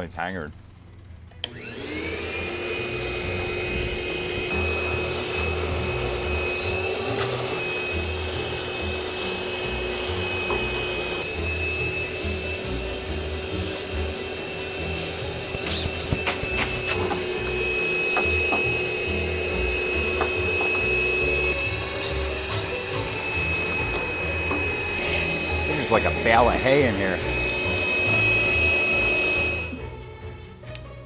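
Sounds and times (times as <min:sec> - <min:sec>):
shop vacuum motor whining: 0:00.8 - 0:30.0.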